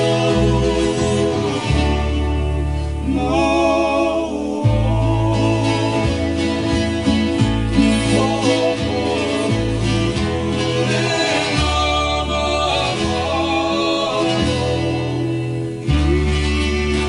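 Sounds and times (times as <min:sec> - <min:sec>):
bass line: 0:00.0 - 0:17.0
man singing: 0:00.0 - 0:17.0
plucked acoustic strings: 0:00.0 - 0:17.0.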